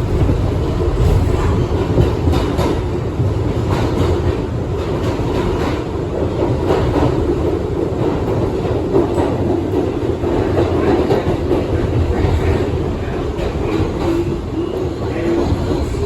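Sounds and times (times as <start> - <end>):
clack over rail joints: 0.0 - 16.0
subway wheels rumbling on rail: 0.0 - 16.0.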